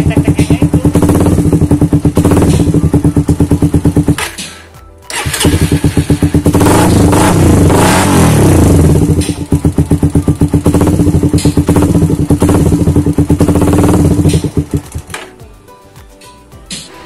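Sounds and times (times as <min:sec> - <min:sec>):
motorcycle engine revving and idling: 0:00.0 - 0:15.3.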